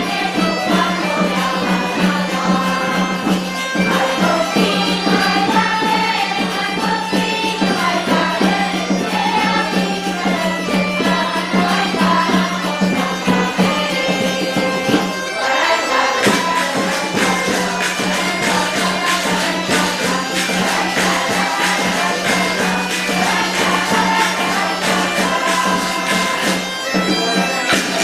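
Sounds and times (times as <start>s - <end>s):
bagpipe folk tune: 0.0s - 28.0s
percussion keeping time: 0.0s - 28.0s.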